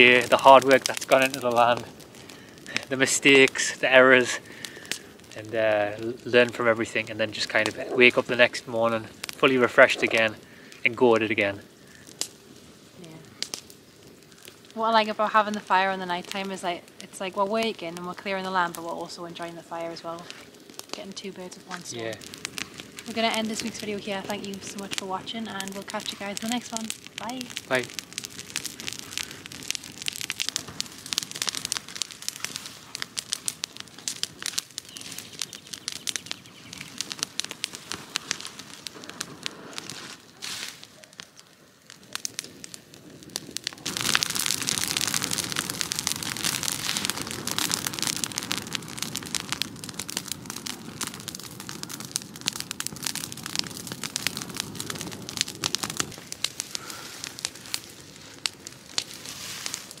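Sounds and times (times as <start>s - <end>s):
bonfire crackling and popping: 0.0s - 60.0s.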